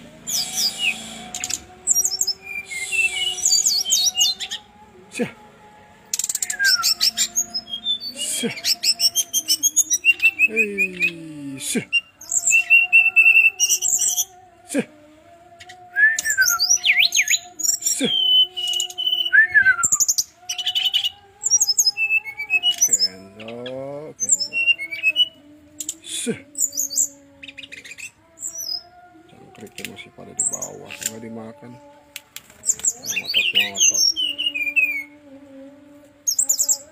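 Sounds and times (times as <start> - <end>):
bird singing varied song: 0.0 - 4.8, 6.0 - 14.5, 15.5 - 35.2, 36.2 - 36.9.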